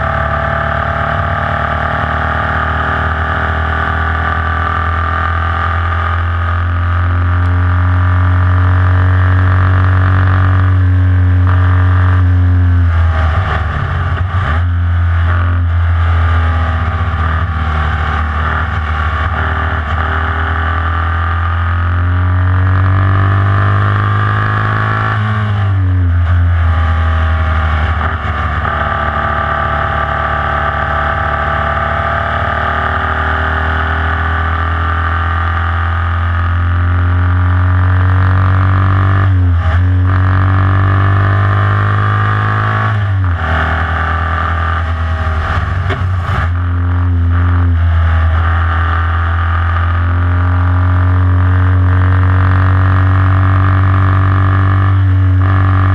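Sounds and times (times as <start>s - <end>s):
race car engine at high revs: 0.0s - 55.9s.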